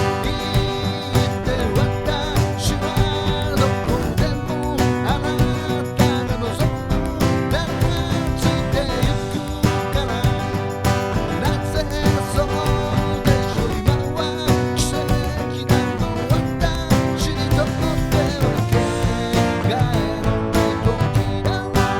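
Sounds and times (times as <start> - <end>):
country music with acoustic guitar: 0.0 - 21.9.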